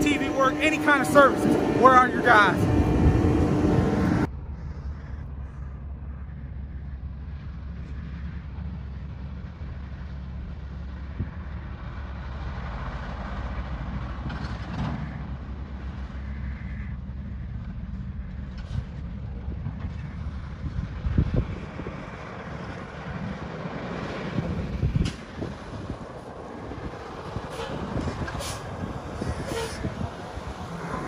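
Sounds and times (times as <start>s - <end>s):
truck engine low rumble: 0.0s - 31.0s.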